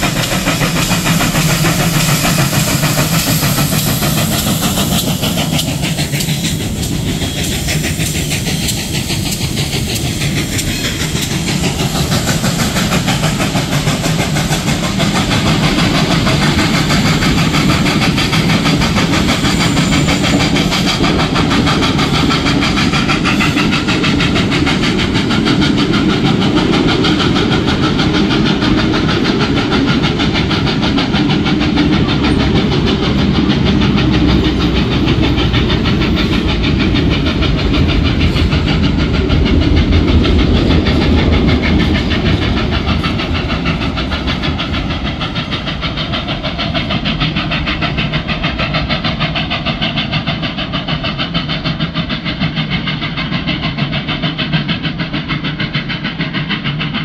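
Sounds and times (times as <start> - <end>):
steam locomotive rapid beat: 0.0 - 57.0.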